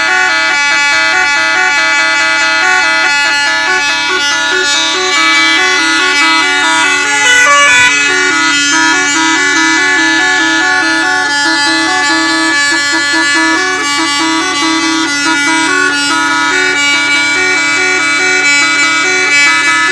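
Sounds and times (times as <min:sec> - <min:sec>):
musical vehicle horn melody: 0:00.0 - 0:19.9.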